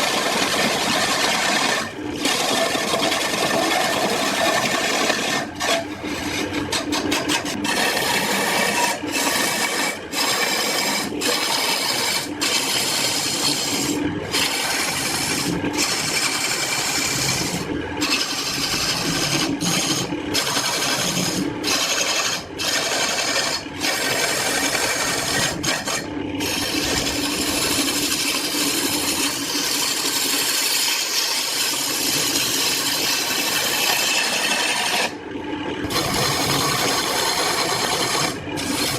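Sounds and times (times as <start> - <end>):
abrasive tool scraping wood: 0.0 - 35.2, 35.9 - 38.9.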